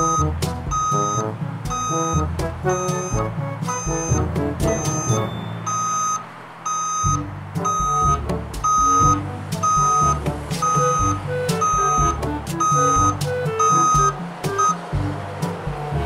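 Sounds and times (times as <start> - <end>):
background music with bass: 0.0 - 6.1, 7.0 - 16.0
backup alarm beeping: 0.0 - 14.8.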